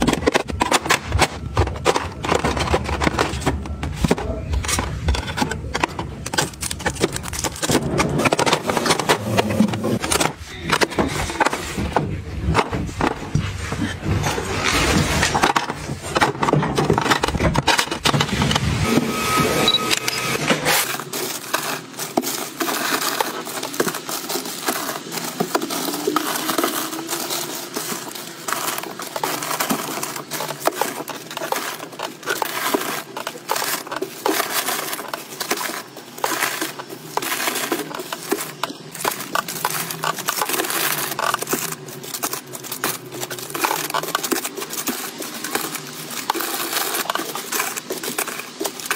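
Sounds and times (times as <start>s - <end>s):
plastic packs crinkling: 0.0s - 48.9s.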